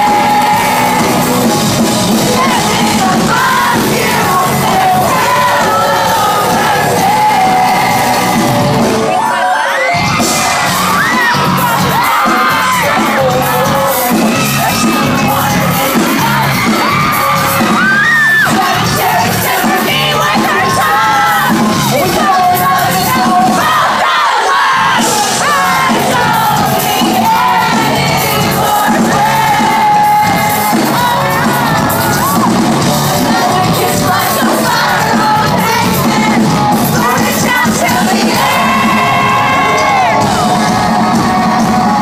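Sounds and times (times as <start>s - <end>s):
crowd yelling and singing along: 0.0s - 42.0s
live rock band playing loudly: 0.0s - 42.0s.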